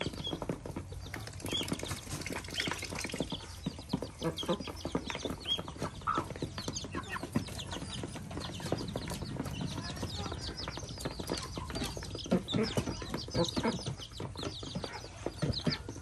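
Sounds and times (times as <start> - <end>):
hens clucking: 0.0 - 16.0
young birds peeping: 0.0 - 16.0.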